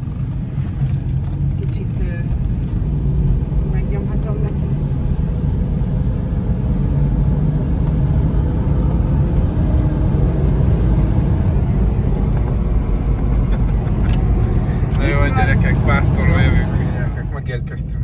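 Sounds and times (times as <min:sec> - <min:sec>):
car cabin engine and road rumble: 0:00.0 - 0:18.0.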